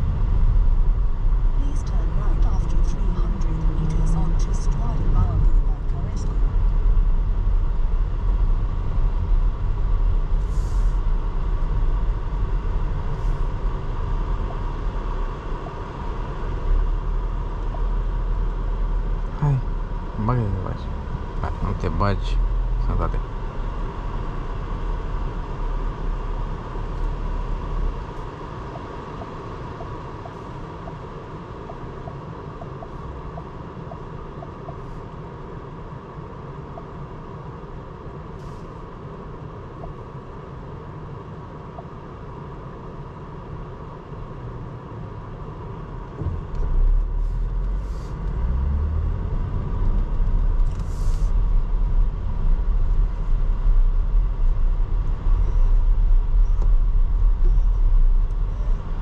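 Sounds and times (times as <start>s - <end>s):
car engine: 0.0s - 37.1s, 42.4s - 59.0s
road rumble: 0.0s - 59.0s.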